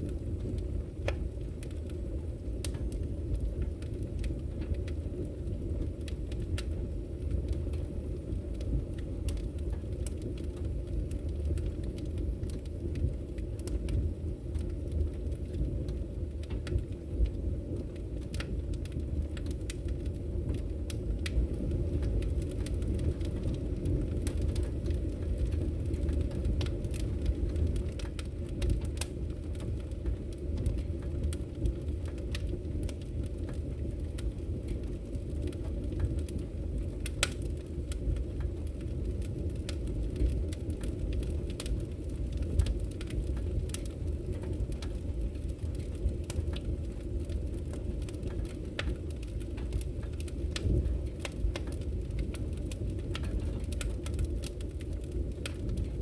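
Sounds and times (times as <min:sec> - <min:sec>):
fire crackling and popping: 0:00.0 - 0:56.0
wood fire burning: 0:00.0 - 0:56.0.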